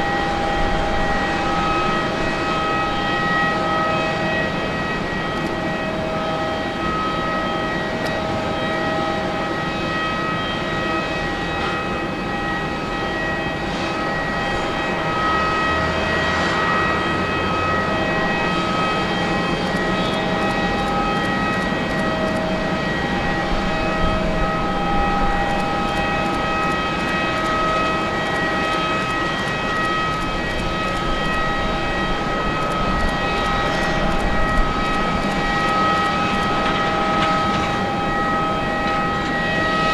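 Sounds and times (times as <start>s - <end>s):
jet engines whining at low thrust: 0.0s - 39.9s.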